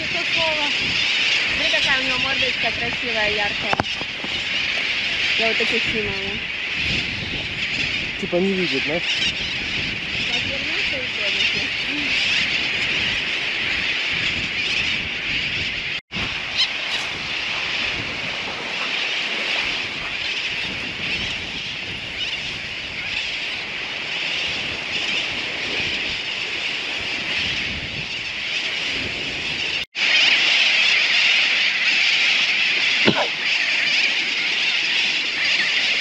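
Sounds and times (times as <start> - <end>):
seabird colony calling: 0.0 - 36.0.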